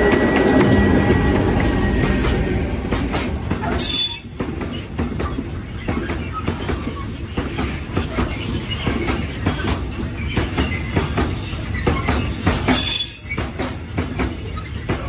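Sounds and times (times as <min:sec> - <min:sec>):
train wheels clicking on rail joints: 0:00.0 - 0:15.0.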